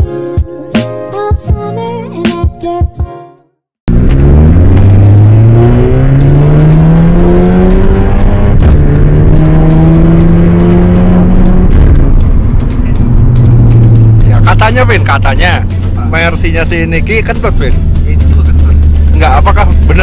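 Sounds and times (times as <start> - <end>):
car engine accelerating: 3.9 - 20.0.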